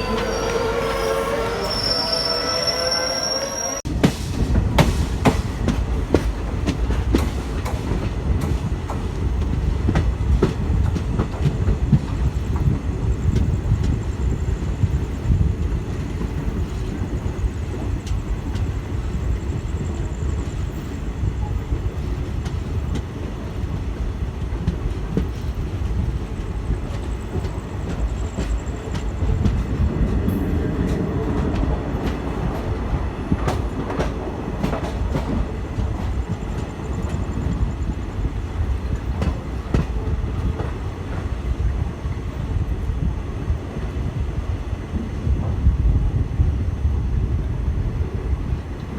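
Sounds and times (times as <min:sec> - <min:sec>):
train wheels rumbling on track: 0:00.0 - 0:48.9.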